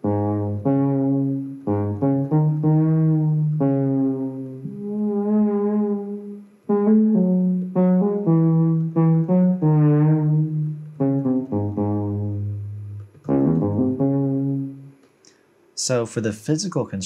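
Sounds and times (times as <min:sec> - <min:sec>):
synthesizer melody with vibrato: 0:00.0 - 0:15.0.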